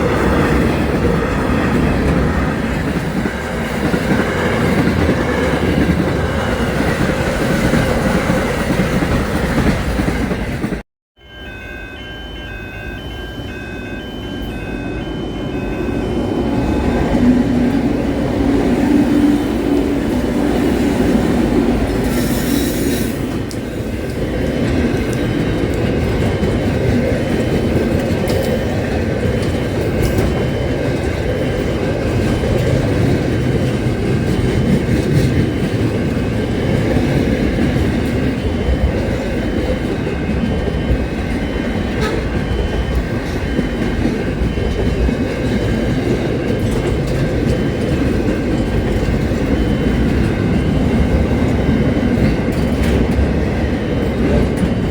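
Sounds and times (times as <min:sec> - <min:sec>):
train rumbling on track: 0:00.0 - 0:54.9.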